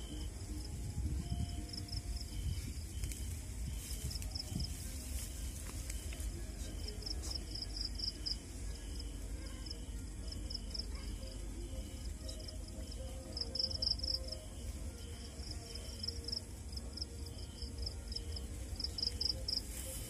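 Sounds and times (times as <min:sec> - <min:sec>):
insects chirping: 0:00.0 - 0:20.0
steady low rumble: 0:00.0 - 0:20.0.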